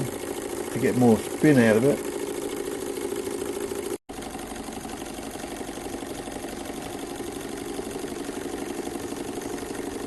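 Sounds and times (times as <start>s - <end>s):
small engine mechanical clatter: 0.0s - 10.0s
steady hum: 0.0s - 10.0s.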